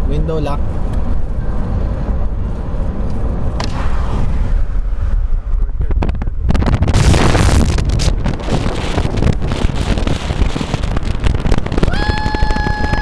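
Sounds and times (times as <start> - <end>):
road rumble inside moving car: 0.0 - 13.0
wind buffeting microphone: 0.0 - 13.0.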